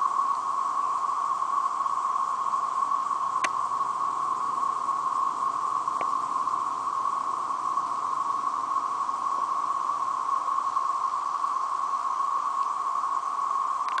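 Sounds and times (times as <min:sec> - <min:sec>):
cicadas droning buzz: 0:00.0 - 0:14.0.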